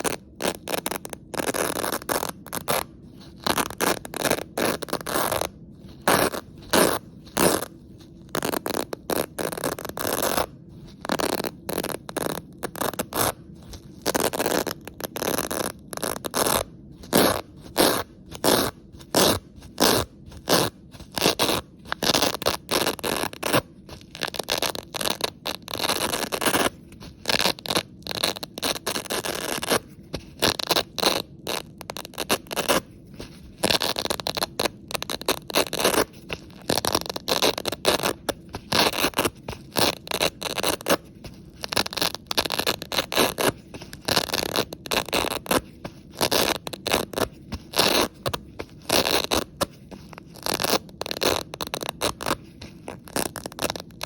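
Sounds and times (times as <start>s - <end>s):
velcro ripping apart: 0.0s - 54.0s.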